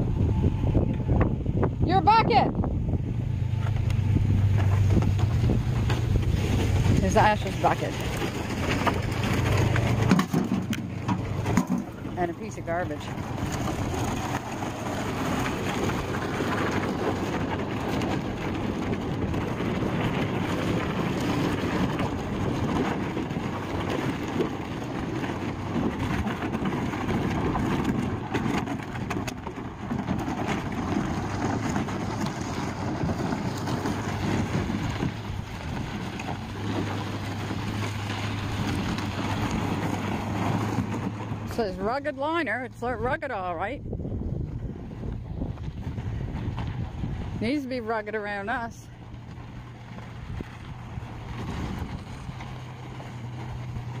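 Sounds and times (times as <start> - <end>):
truck engine running: 0.0 - 54.0
plastic scraping over gravel: 3.5 - 43.8, 44.6 - 54.0.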